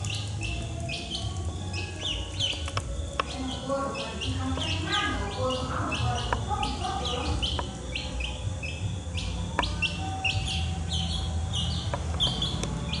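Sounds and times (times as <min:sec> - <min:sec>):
duckling peeping: 0:00.0 - 0:13.0.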